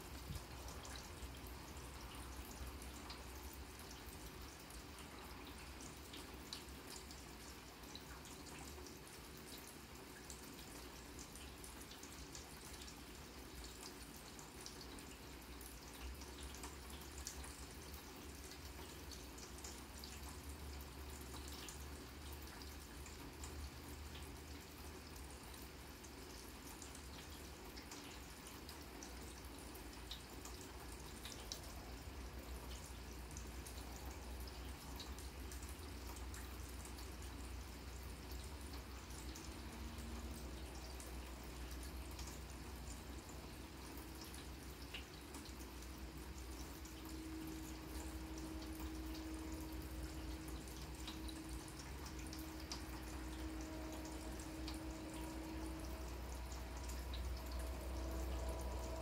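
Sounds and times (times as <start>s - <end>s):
light rain on grass: 0.0s - 59.0s.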